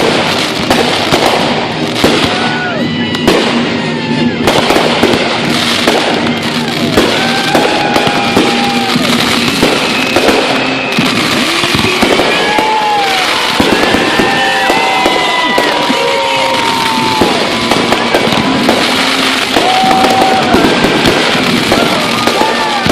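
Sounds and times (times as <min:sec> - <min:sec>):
fireworks bangs and crackling: 0:00.0 - 0:22.9
whistling firework shells: 0:00.0 - 0:22.9.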